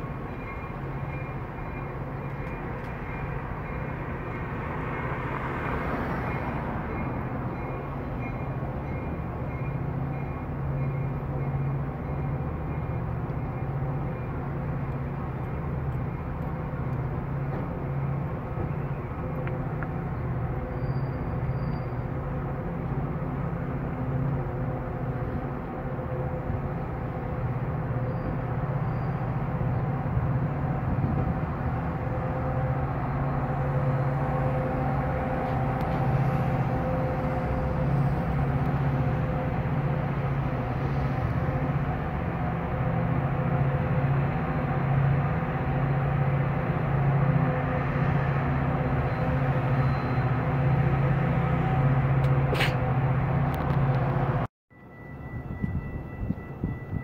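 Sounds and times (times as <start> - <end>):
diesel train engine rumbling: 0.0 - 57.0.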